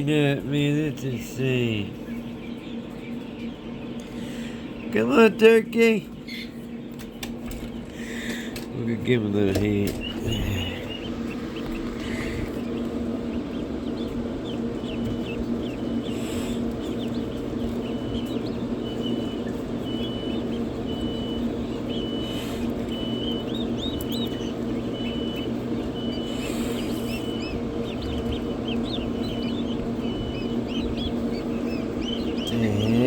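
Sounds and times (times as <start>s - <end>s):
ducklings and poults cheeping: 0.0s - 33.0s
incubator fan hum: 0.0s - 33.0s.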